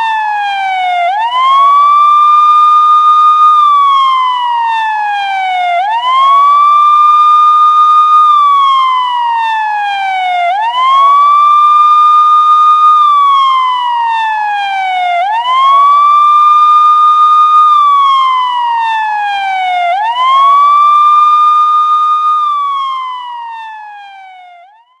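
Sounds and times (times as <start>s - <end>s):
police siren wailing: 0.0s - 25.0s.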